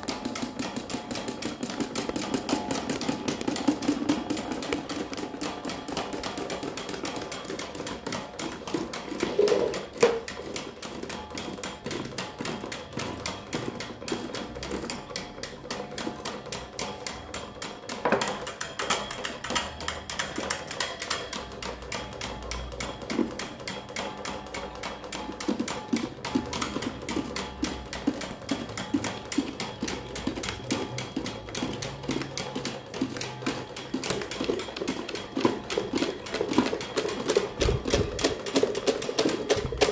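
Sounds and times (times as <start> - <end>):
electric fan rattling: 0.0 - 39.9.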